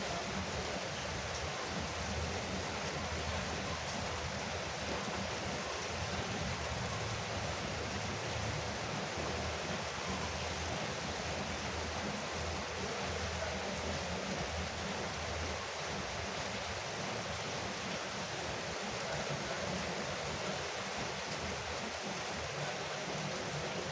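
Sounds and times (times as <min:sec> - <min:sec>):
rain on a roof: 0:00.0 - 0:23.9.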